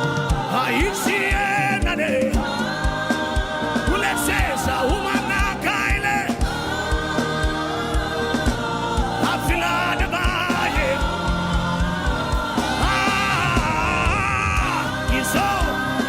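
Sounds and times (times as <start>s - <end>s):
keyboard: 0.0s - 16.0s
voices singing gospel: 0.0s - 16.0s
kick drum beat: 0.3s - 13.8s.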